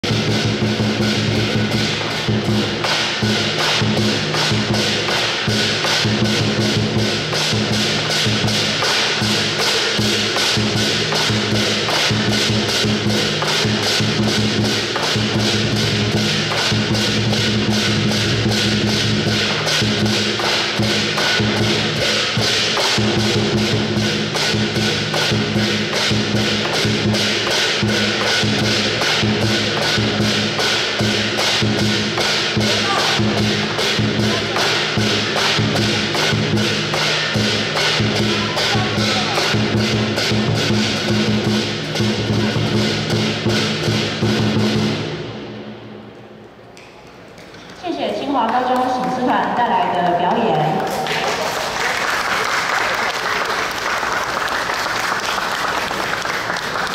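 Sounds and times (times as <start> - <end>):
big drum beating: 0.0 - 46.0
cymbals clashing: 0.0 - 46.5.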